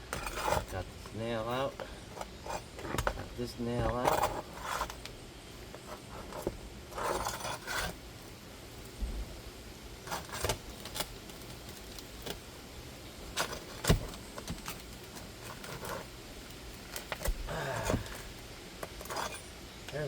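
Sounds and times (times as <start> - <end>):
pry bar clicking and scraping: 0.0 - 8.0, 10.0 - 12.4, 13.3 - 16.1, 16.8 - 20.0.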